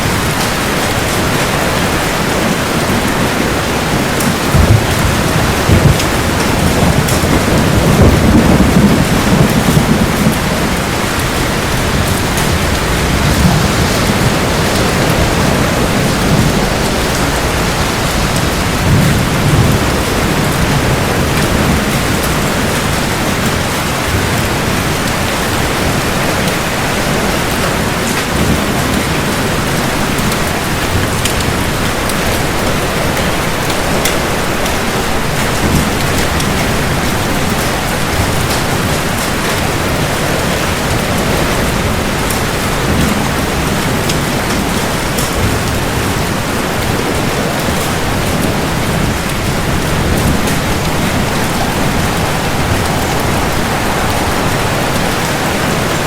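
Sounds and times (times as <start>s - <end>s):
heavy rain falling: 0.0s - 56.0s
low thunder rolls: 0.0s - 56.0s.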